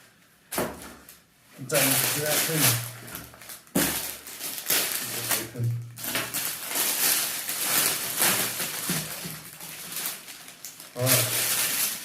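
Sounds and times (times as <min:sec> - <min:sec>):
plastic packaging crinkling: 0:00.6 - 0:12.0.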